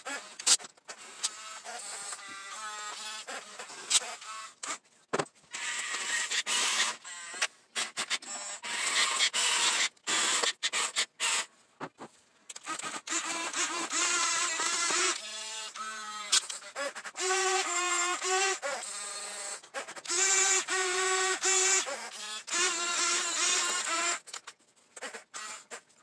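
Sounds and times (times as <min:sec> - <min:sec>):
small electric motors whining: 0:00.0 - 0:04.9, 0:05.5 - 0:11.6, 0:12.5 - 0:26.0.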